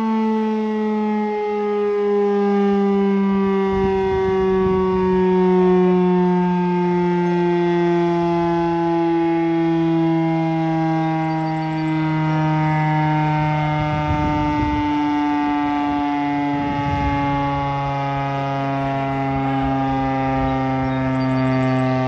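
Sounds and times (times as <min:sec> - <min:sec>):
fire siren steady tone: 0:00.0 - 0:22.0.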